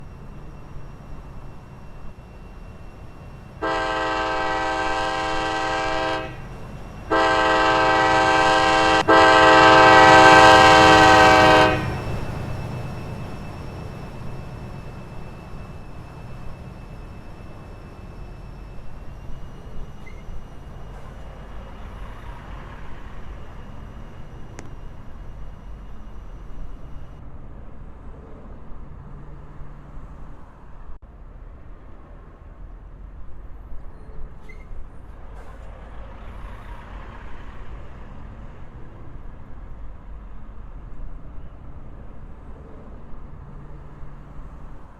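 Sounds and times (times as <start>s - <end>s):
freight train rumbling past: 0.0s - 44.9s.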